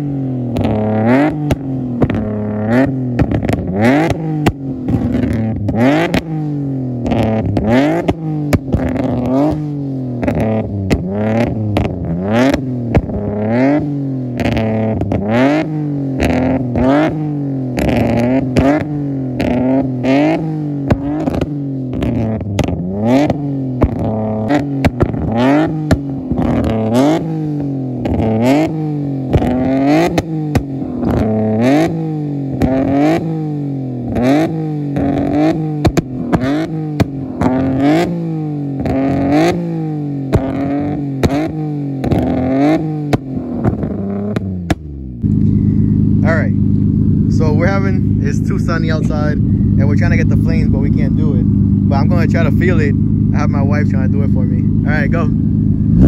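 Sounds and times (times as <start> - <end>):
car engine revving: 0.0 - 56.0
exhaust cracks: 0.0 - 56.0.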